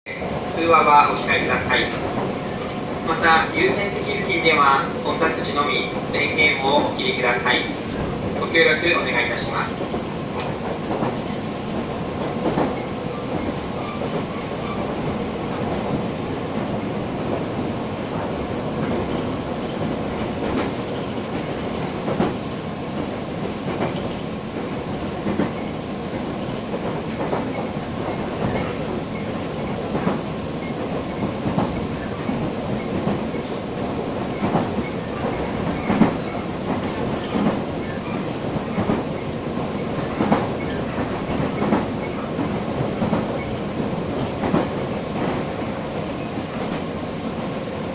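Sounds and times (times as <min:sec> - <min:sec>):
train wheels rumbling on rail: 0:00.1 - 0:47.9.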